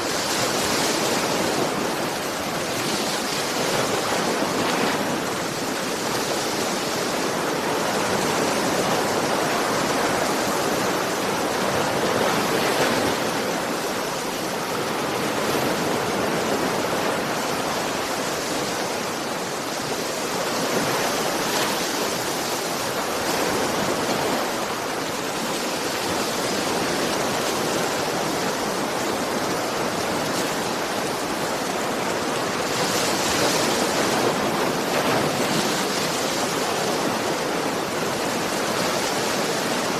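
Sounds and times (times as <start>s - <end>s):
ocean surf washing: 0.0s - 39.9s.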